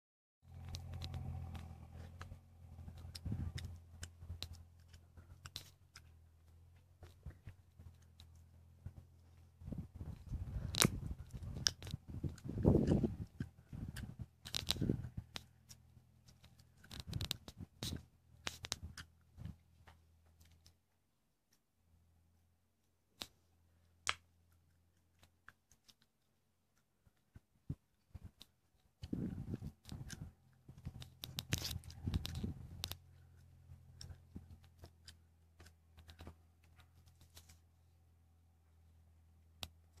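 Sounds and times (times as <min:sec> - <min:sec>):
faint low hum: 0:00.4 - 0:40.0
handling clicks and rustles: 0:00.5 - 0:21.7, 0:22.8 - 0:40.0.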